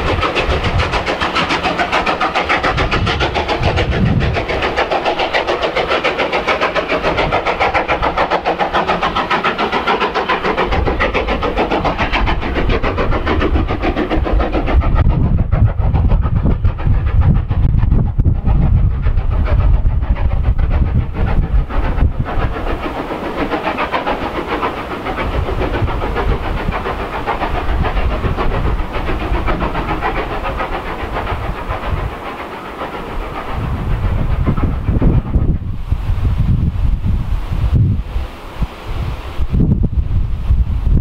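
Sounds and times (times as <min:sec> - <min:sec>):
distant steam train rushing: 0:00.0 - 0:41.0
wind buffeting microphone: 0:00.0 - 0:41.0.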